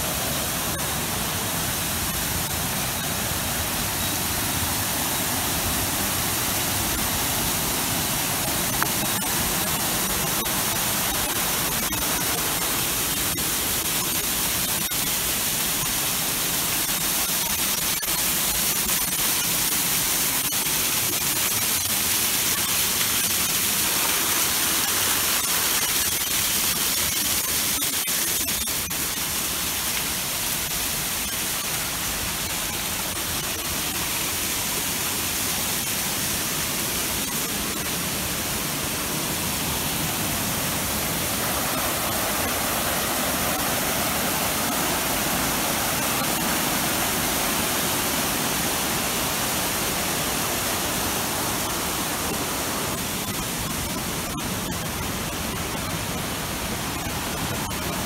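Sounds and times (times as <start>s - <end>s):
waterfall rushing over rock: 0.0s - 58.0s.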